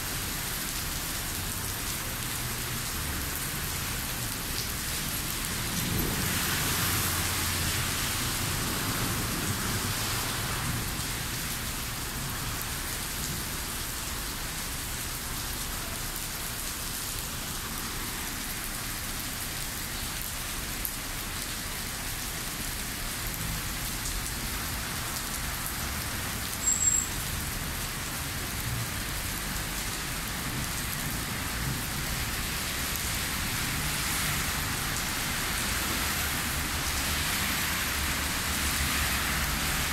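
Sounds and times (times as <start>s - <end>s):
heavy rain on street: 0.0s - 39.9s.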